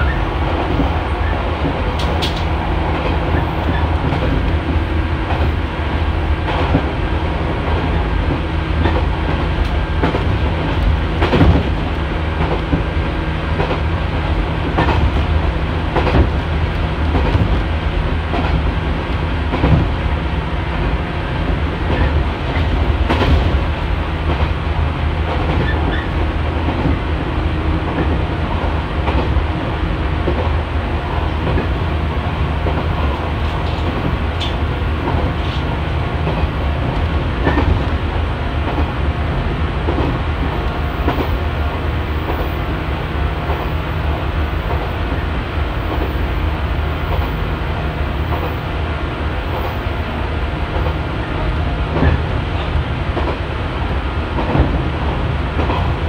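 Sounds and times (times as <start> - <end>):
train motor and running hum: 0.0 - 56.0.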